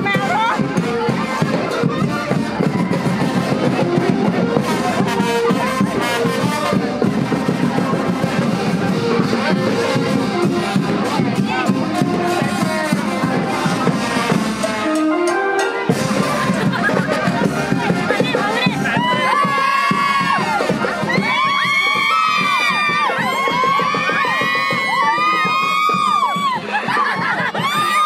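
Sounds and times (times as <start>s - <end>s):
band music with melody: 0.0s - 28.0s
crowd voices: 0.0s - 28.0s
steady drumming: 0.0s - 28.0s.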